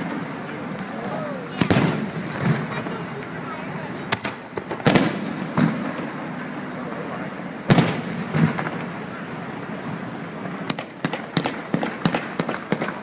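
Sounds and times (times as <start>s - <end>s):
firework booms: 0.0s - 13.0s.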